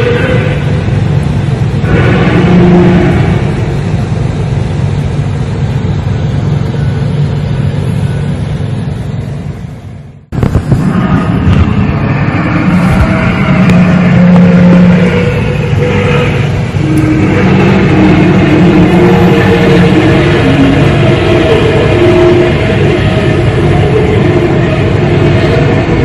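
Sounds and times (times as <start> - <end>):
loud low droning rumble: 0.0 - 26.0.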